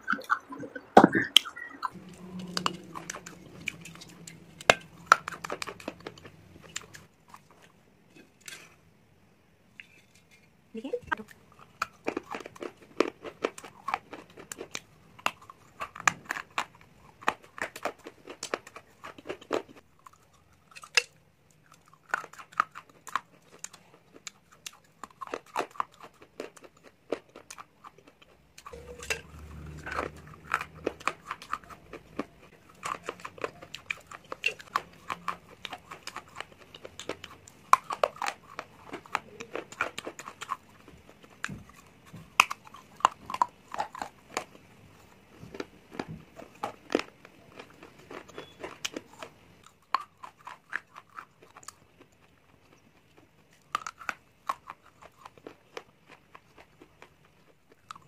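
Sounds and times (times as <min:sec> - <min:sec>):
crunching and chewing: 0:01.6 - 0:08.8, 0:11.1 - 0:58.0.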